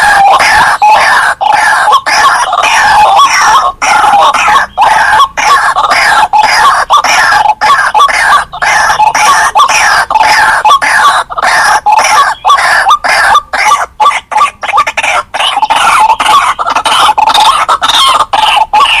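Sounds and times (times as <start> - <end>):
waterhens calling harshly: 0.0 - 19.0.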